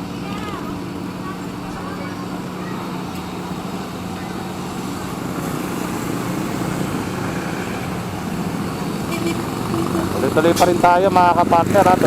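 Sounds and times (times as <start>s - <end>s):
street traffic noise: 0.0s - 12.0s
vehicle engine running: 0.0s - 12.0s.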